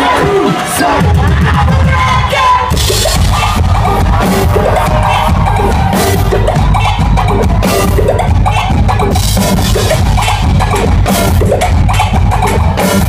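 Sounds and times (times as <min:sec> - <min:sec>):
loud dance music with heavy bass: 0:00.0 - 0:13.0.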